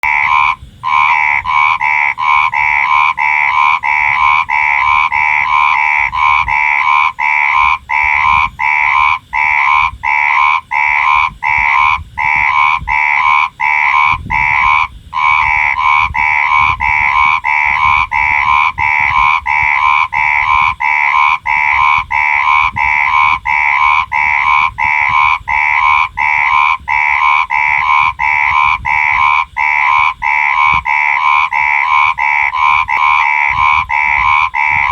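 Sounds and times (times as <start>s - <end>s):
frog croaking: 0.0s - 34.9s.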